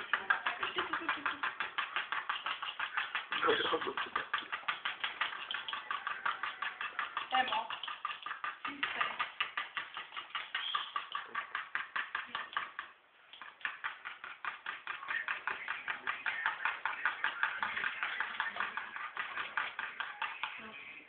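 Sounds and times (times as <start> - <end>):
rapid even tapping: 0.0 - 20.8.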